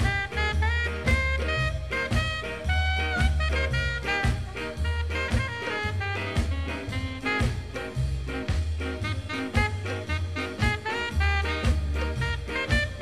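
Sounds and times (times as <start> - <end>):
swing music with horns and drums: 0.0 - 13.0.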